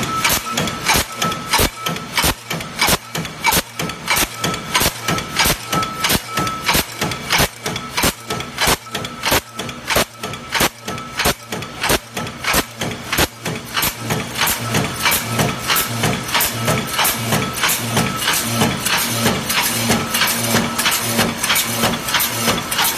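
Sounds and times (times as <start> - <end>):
power press strokes: 0.0 - 22.9.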